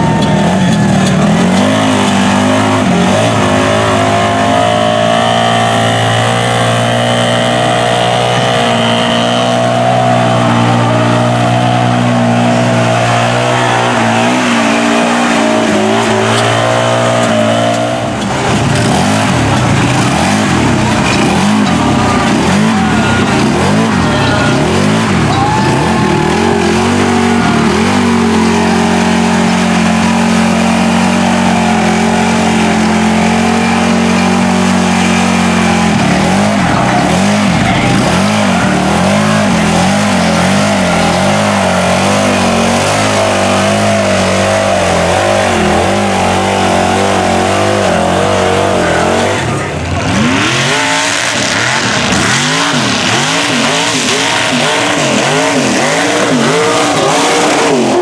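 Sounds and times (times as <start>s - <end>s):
mud truck engine revving: 0.0s - 58.0s.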